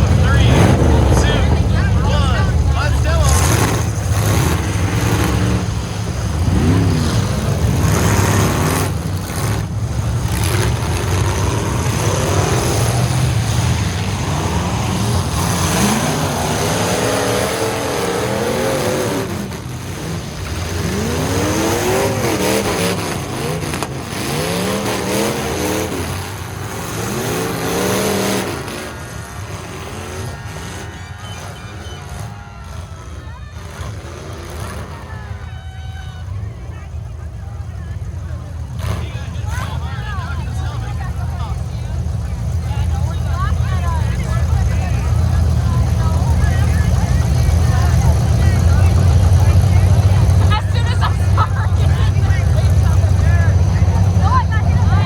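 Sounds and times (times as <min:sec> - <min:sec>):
pickup truck engines revving: 0:00.0 - 0:55.0.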